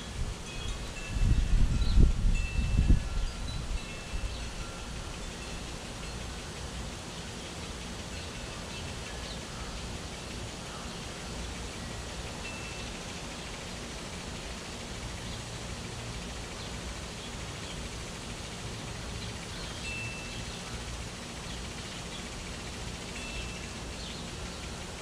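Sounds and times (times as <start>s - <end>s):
lawn sprinklers hissing: 0.0s - 25.0s.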